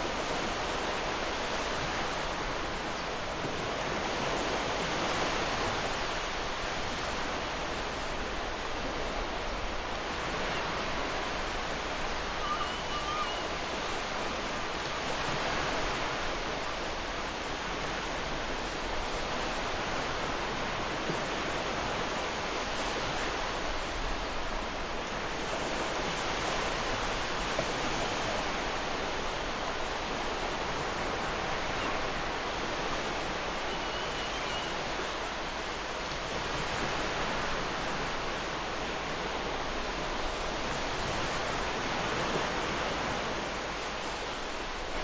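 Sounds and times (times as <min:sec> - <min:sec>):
surf breaking on a beach: 0:00.0 - 0:45.0.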